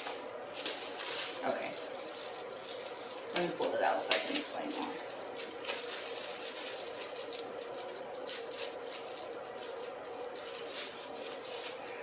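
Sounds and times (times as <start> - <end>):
packaging rustling: 0.0 - 12.0
steady background hum: 0.0 - 12.0.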